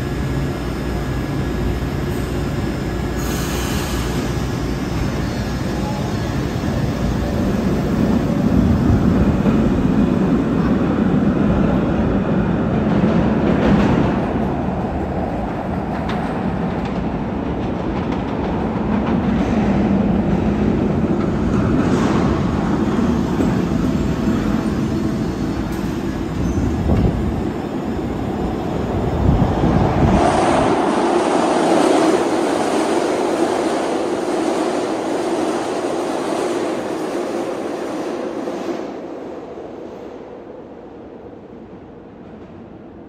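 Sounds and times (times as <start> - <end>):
subway train rail rumble: 0.0 - 43.0.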